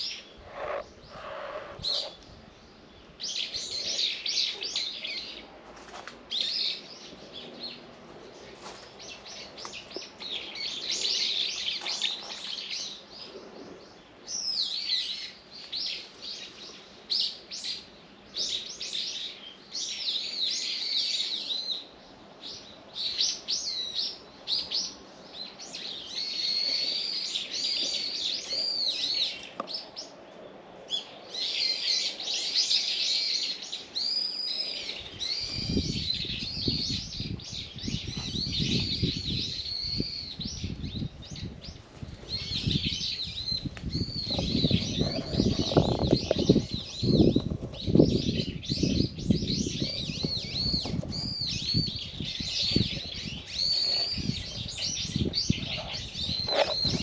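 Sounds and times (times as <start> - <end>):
small birds chirping: 0.0 - 5.6, 6.2 - 57.0.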